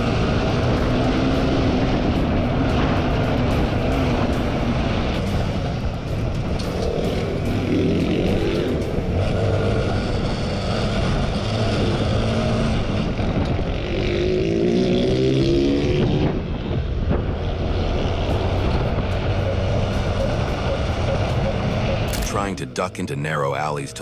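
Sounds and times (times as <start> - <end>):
heavy wind rush: 0.0 - 22.8
motorcycle engine revving: 0.0 - 23.0.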